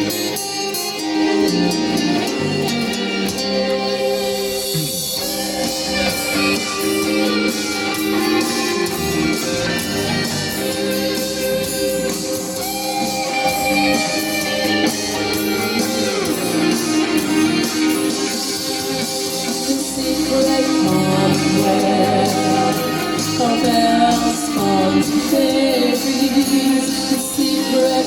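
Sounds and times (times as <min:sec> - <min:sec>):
instrumental guitar music: 0:00.0 - 0:28.0.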